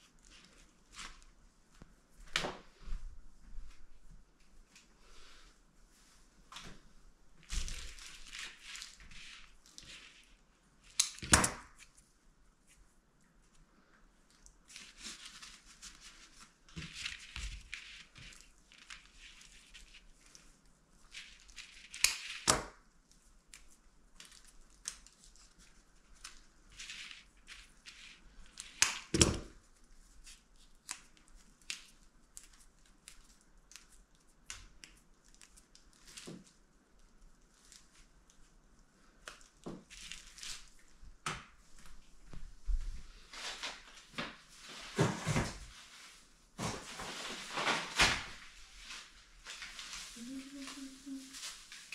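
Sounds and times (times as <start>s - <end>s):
craft materials rustling and crinkling: 0.0s - 51.9s.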